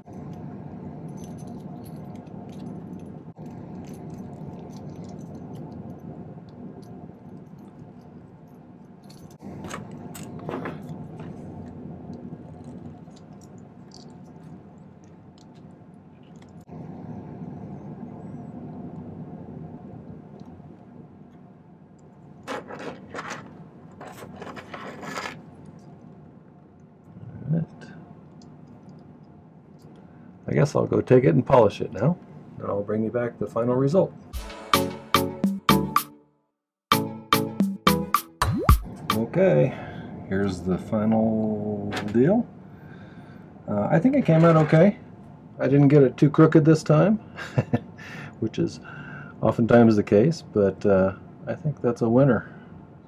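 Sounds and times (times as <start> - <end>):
steady low hum: 0.0 - 34.5, 38.5 - 53.0.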